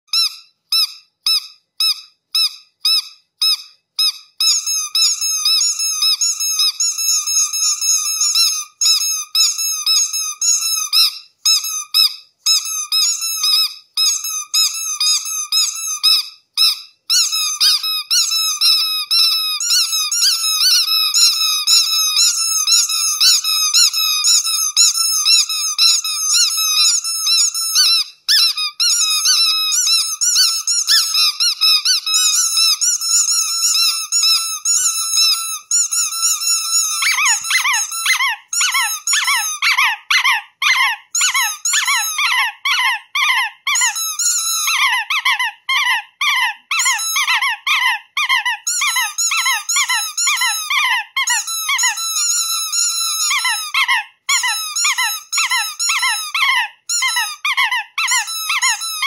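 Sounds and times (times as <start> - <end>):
rubber duck squeak toy squeaking: 0.1 - 59.0.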